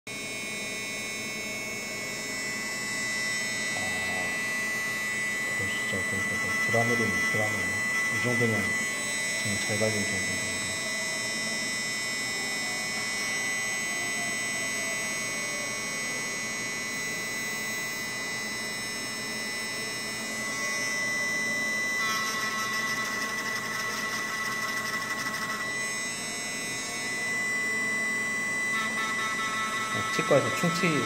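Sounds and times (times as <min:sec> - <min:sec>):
rotary tool grinding whine: 0:00.1 - 0:31.0.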